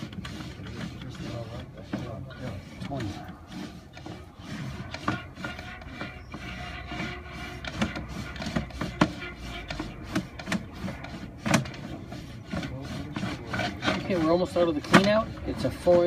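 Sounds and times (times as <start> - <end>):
cable scraping in pipe: 0.0 - 16.0.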